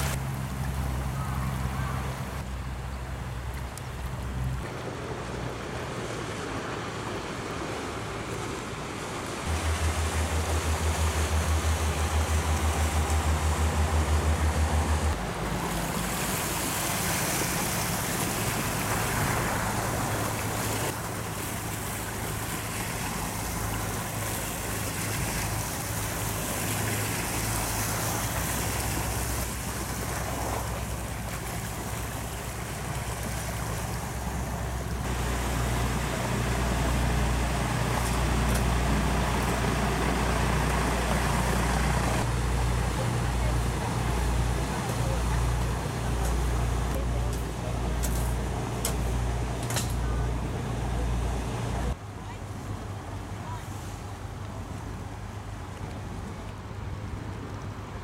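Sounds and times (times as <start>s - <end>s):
boat engine drone: 0.0s - 58.0s
wake rushing on water: 0.0s - 58.0s.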